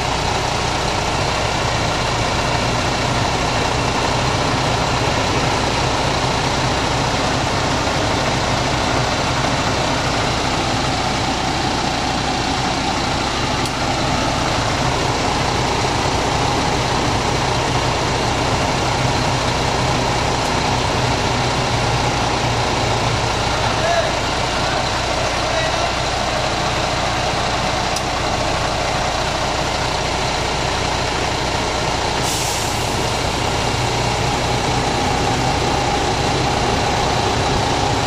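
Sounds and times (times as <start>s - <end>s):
air conditioning compressor running: 0.0s - 38.0s
diesel truck engine idling: 0.0s - 38.0s.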